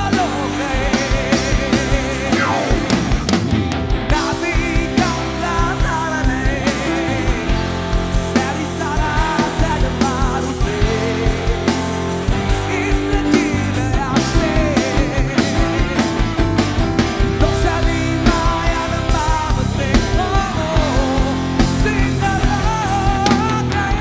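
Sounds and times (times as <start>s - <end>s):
man singing into microphone: 0.0s - 3.1s, 4.1s - 16.3s, 17.3s - 24.0s
live band playing: 0.0s - 24.0s.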